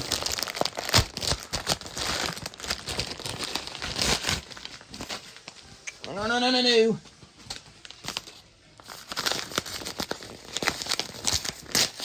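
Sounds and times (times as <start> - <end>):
packaging crinkling and tearing: 0.0 - 6.3, 7.5 - 12.0.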